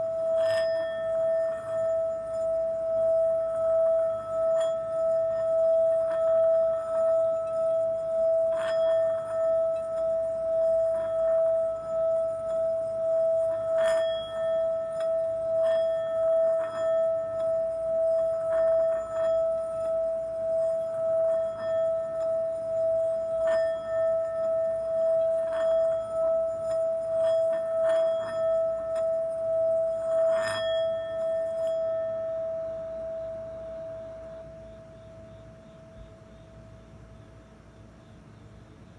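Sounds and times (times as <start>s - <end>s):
singing bowl humming: 0.0s - 38.9s.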